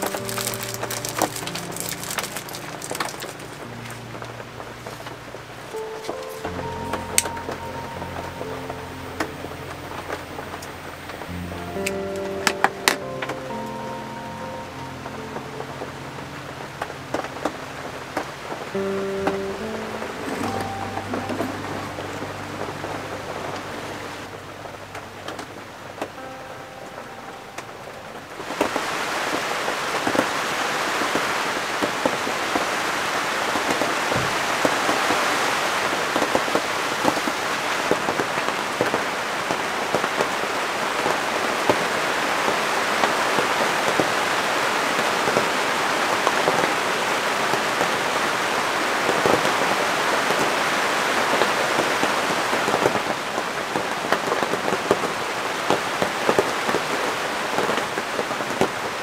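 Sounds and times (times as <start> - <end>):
rain pattering on a tent: 0.0 - 59.0.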